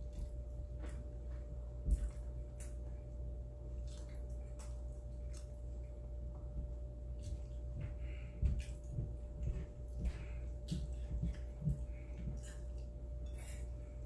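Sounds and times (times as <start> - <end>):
steady low hum: 0.0 - 14.0
wet chewing and mouth sounds: 0.0 - 14.0.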